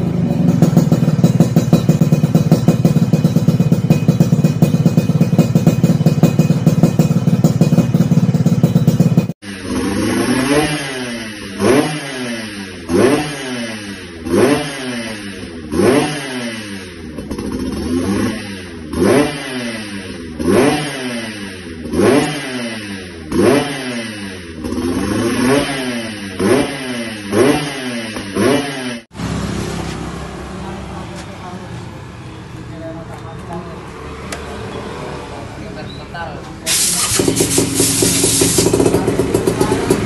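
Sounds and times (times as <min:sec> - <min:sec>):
two-stroke engine revving: 0:00.0 - 0:31.2, 0:32.0 - 0:40.0.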